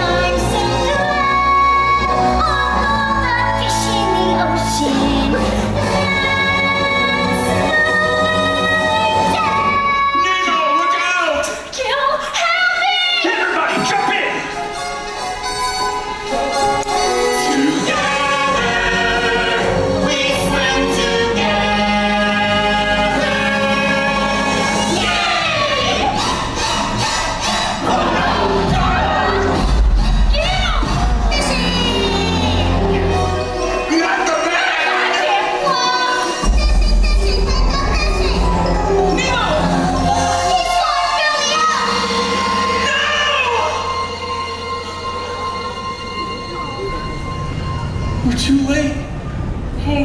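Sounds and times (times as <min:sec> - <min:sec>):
voices singing in harmony: 0:00.0 - 0:11.0, 0:16.8 - 0:48.1
backing music: 0:00.0 - 0:11.8, 0:13.4 - 0:49.8.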